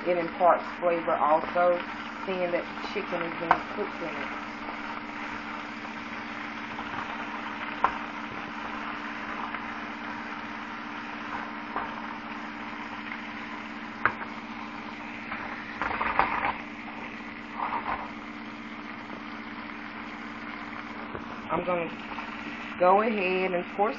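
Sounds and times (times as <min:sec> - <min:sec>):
chicken sizzling in a pan: 0:00.0 - 0:23.9
constant low hum: 0:00.0 - 0:23.9.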